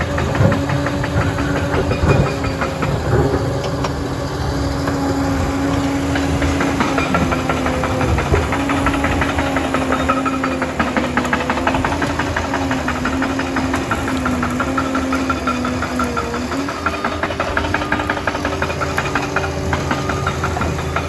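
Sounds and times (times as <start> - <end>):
bulldozer diesel engine clattering: 0.0 - 21.0.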